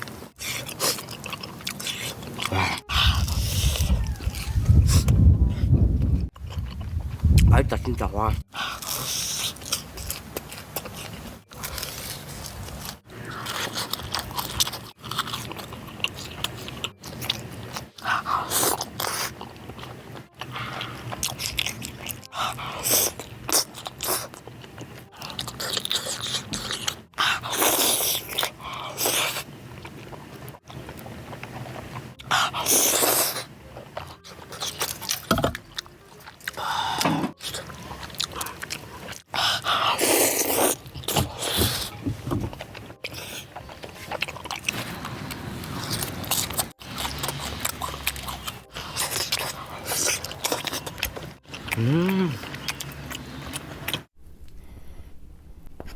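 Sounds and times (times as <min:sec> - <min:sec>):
person chewing and crunching food: 0:00.0 - 0:54.2.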